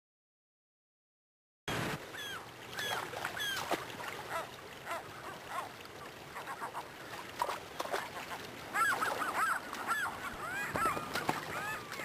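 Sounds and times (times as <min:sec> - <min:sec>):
shallow river rushing: 0:01.7 - 0:12.0
gulls calling: 0:02.0 - 0:12.0.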